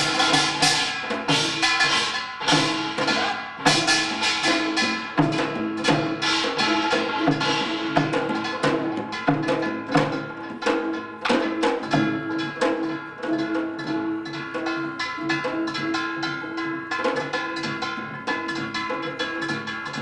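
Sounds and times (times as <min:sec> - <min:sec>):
drum and gong percussion: 0:00.0 - 0:20.0.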